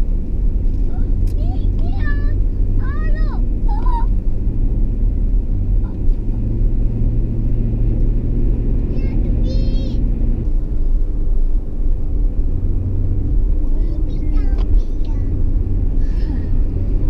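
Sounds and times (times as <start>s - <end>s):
truck engine and tyre drone: 0.0s - 17.0s.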